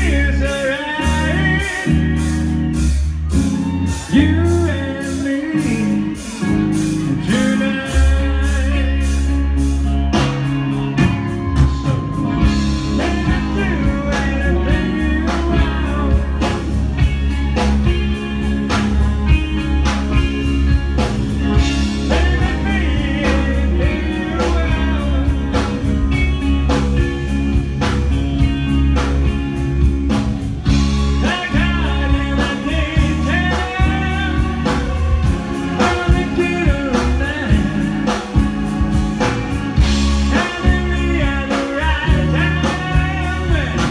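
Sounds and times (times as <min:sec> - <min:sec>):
man singing lead vocal: 0:00.0 - 0:17.7, 0:18.5 - 0:27.9, 0:30.7 - 0:43.9
bass guitar: 0:00.0 - 0:43.9
distorted electric guitar: 0:00.0 - 0:43.9
drums with steady beat: 0:00.0 - 0:43.9.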